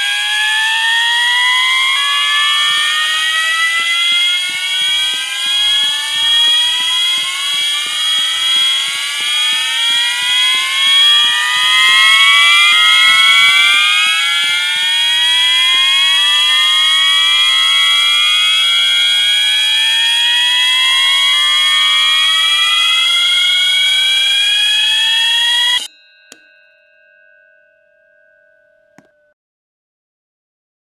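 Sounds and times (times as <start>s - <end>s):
fire alarm horns whooping: 0.0s - 25.9s
steady high tone: 0.0s - 27.6s.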